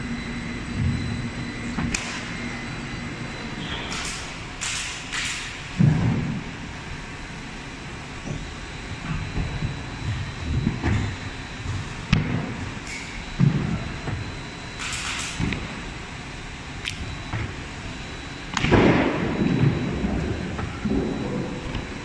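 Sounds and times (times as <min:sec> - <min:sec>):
faint high whine: 0:00.0 - 0:04.6, 0:06.2 - 0:22.0
low machine noise: 0:00.0 - 0:22.0.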